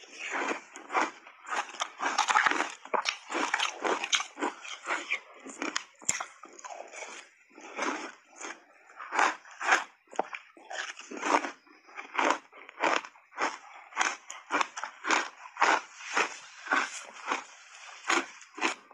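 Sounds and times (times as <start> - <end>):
ice being crunched and chewed: 0.0 - 18.9.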